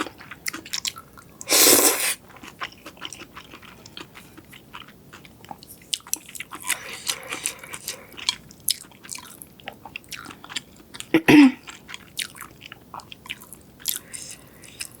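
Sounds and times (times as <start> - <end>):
chewing with crackles: 0.0 - 1.5, 2.2 - 15.0.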